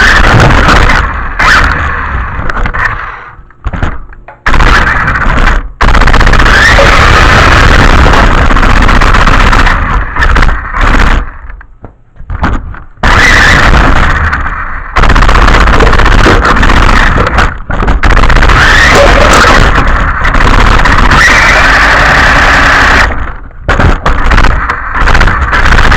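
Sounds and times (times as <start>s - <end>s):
loud distorted rumbling: 0.0s - 25.9s.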